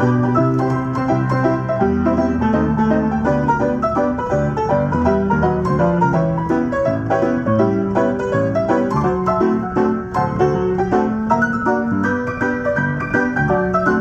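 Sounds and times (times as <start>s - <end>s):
player piano playing: 0.0s - 14.0s.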